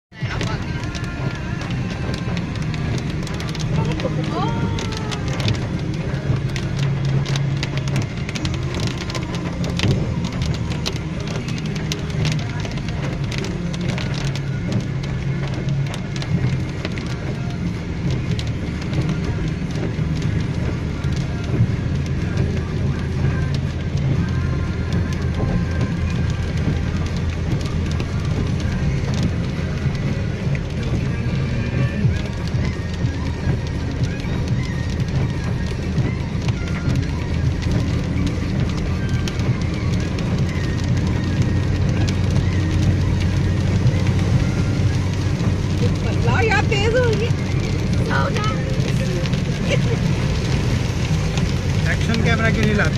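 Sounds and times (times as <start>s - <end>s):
engine and tyre rumble: 0.0s - 52.9s
car driving on wet highway: 0.1s - 52.9s
music playing: 0.1s - 52.9s
raindrops hitting windscreen: 0.1s - 52.9s.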